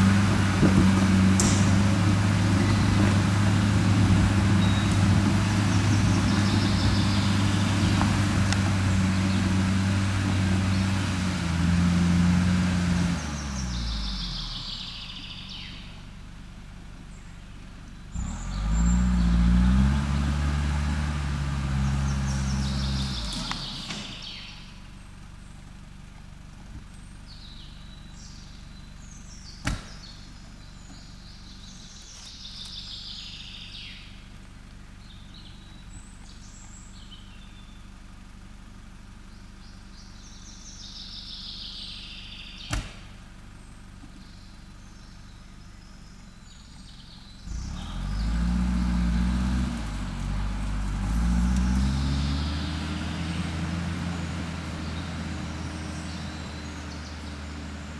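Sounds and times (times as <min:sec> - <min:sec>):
truck engine idling and revving: 0:00.0 - 0:57.9
birds singing: 0:04.2 - 0:11.1, 0:12.5 - 0:16.0, 0:17.0 - 0:20.3, 0:21.8 - 0:25.7, 0:26.8 - 0:57.9.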